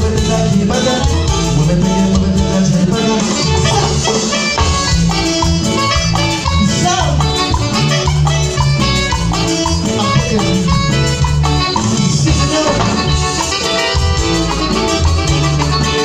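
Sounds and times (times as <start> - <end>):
bass line: 0.0 - 16.0
electric guitar: 0.0 - 16.0
keyboard melody: 0.0 - 16.0
latin percussion: 0.0 - 16.0.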